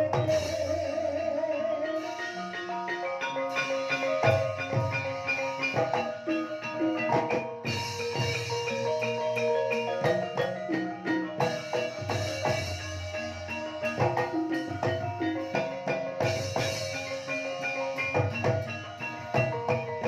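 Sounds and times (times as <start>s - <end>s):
metallophones ringing: 0.0s - 20.0s.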